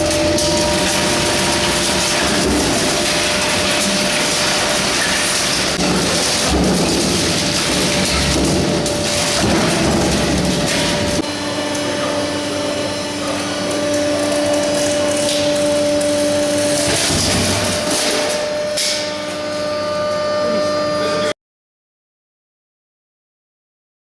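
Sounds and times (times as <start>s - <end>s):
machine hum with fixed tones: 0.0s - 21.4s.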